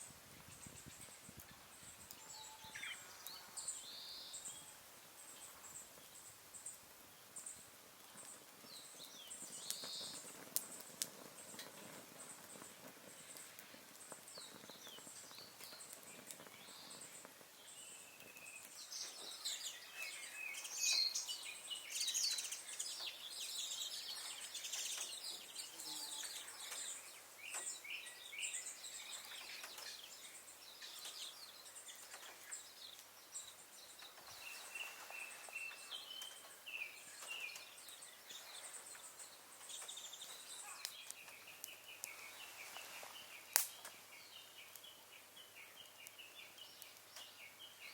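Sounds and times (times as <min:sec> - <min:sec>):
faint high-pitched hiss: 0:00.0 - 0:47.9
wild birds chirping: 0:00.0 - 0:47.9.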